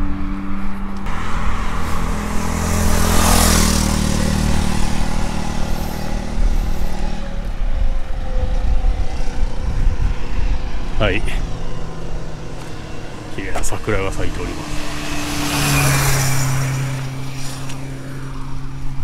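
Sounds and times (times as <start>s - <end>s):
steady engine hum: 0.0s - 19.0s
vehicle passing close by: 0.0s - 19.0s.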